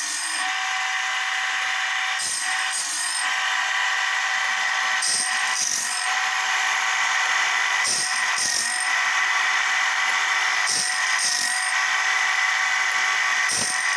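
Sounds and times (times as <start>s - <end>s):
grinder motor whine: 0.0s - 13.9s.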